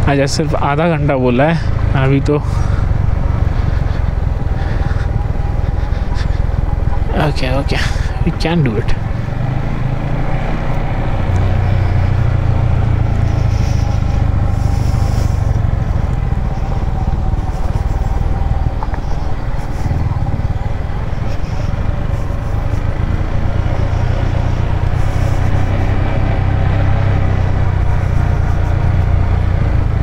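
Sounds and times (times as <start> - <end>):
motorcycle engine humming: 0.0 - 30.0.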